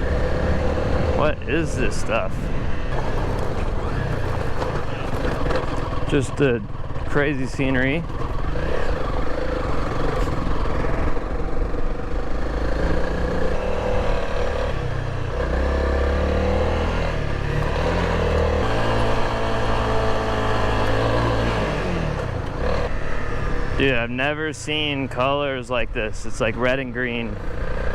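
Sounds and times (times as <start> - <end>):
motorcycle engine running: 0.0 - 25.6, 26.5 - 27.9.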